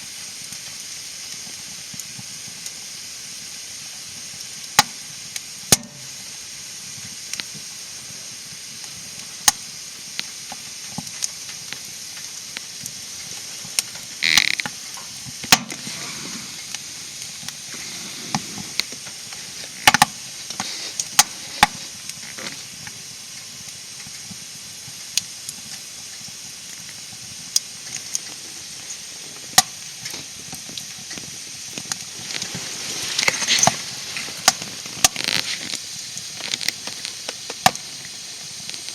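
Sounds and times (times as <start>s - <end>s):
fire crackles and pops: 0.0s - 38.9s
fire hissing: 0.0s - 38.9s.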